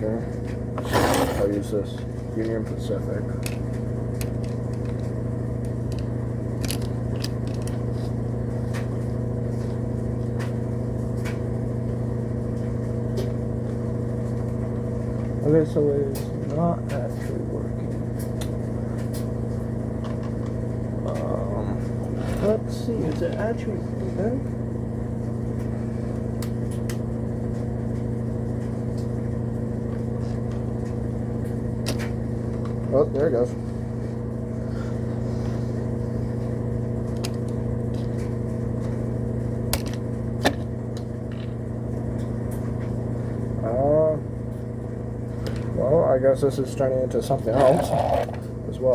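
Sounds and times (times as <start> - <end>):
low electrical buzz: 0.0 - 48.9.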